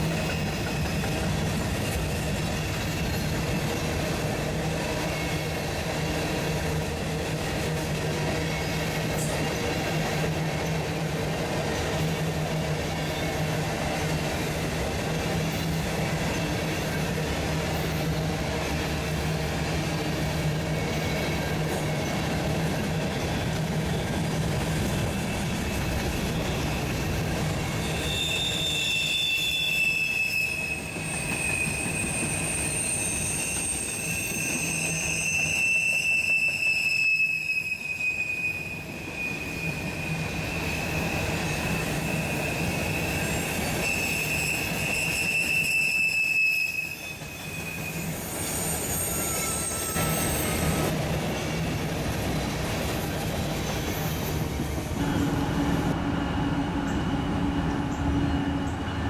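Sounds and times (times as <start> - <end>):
train cars rumbling: 0.0 - 59.0
train wheels squealing on rails: 0.0 - 59.0.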